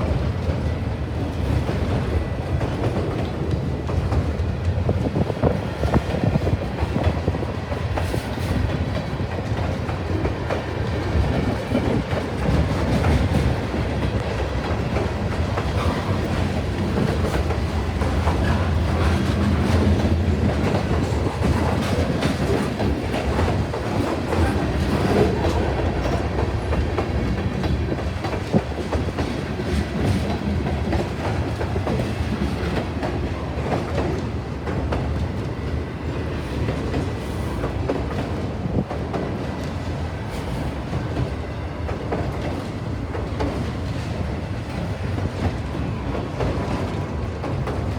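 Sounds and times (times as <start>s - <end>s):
train wheels clicking over rail joints: 0.0s - 47.9s.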